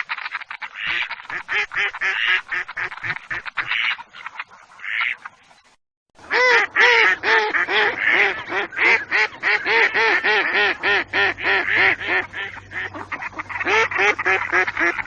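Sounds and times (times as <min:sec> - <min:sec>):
duck quacking: 0:00.0 - 0:05.4, 0:06.2 - 0:15.0.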